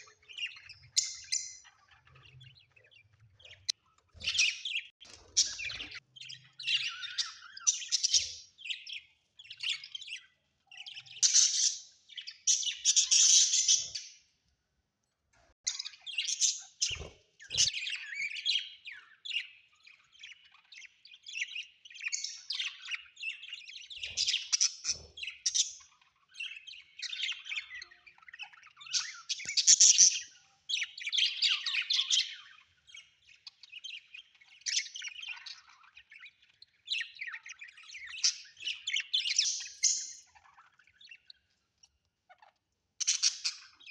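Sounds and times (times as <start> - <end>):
budgerigars chirping and chattering: 0.0 - 14.5, 15.6 - 43.9.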